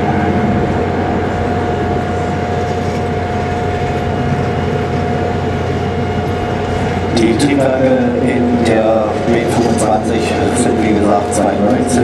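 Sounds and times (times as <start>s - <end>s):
aircraft engines droning overhead: 0.0s - 12.0s
steady tone: 0.0s - 12.0s.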